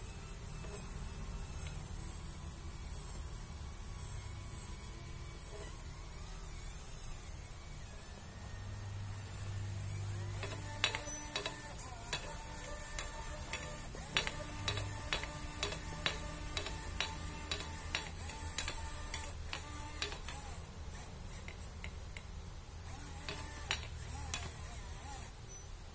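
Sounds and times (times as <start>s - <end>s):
servo whirring and clicking: 0.0s - 25.8s.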